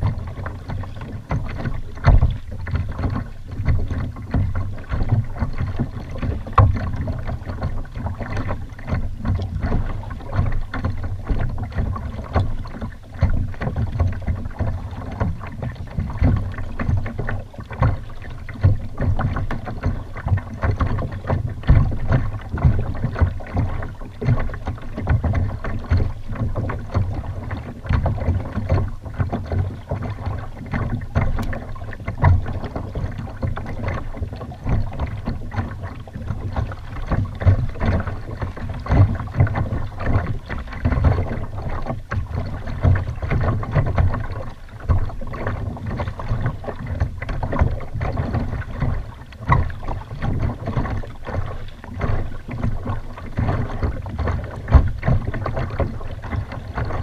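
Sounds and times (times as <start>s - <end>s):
knocks on kayak hull: 0.0s - 56.7s
water sloshing against hull: 0.0s - 57.0s.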